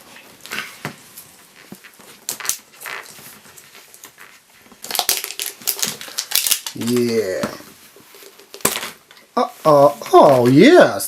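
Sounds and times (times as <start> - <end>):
wrapper crinkling: 0.1 - 10.6.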